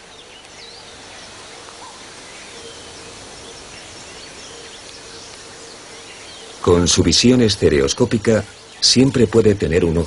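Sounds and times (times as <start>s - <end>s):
faint bird chirps: 0.0s - 10.0s
steady hiss: 0.0s - 10.0s.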